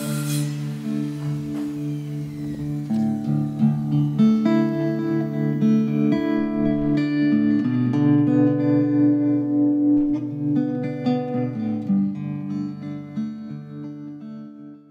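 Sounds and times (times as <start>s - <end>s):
guitar piece: 0.0s - 14.9s.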